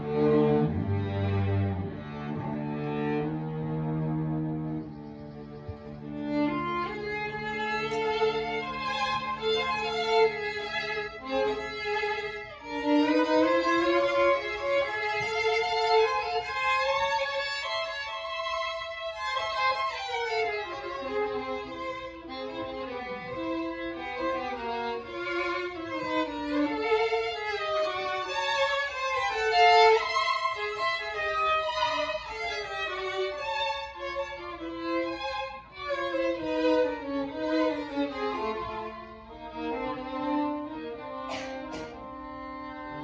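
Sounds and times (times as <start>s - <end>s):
string quartet playing: 0.0s - 43.0s.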